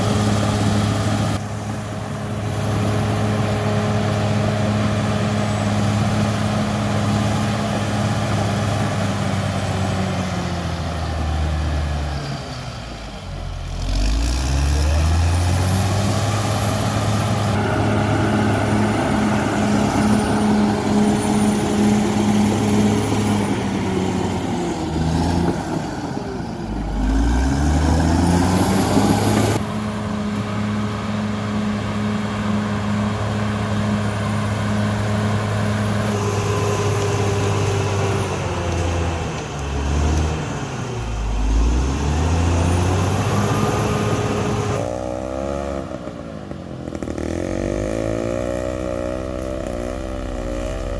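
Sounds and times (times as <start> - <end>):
bulldozer diesel engine running hard: 0.0 - 50.9.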